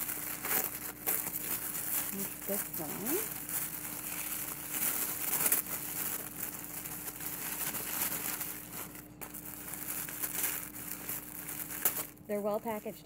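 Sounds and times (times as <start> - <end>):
packaging wrap rustling and crackling: 0.0 - 13.0.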